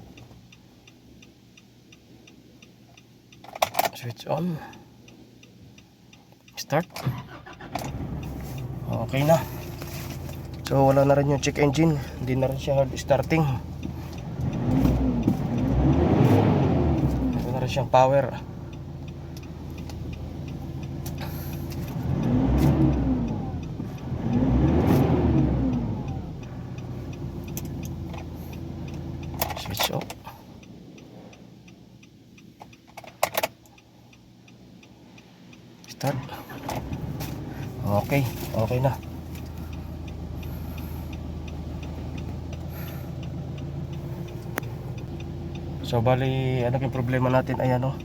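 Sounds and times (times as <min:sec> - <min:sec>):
light regular ticking: 0:00.0 - 0:48.0
diesel engine idling and revving: 0:07.0 - 0:48.0.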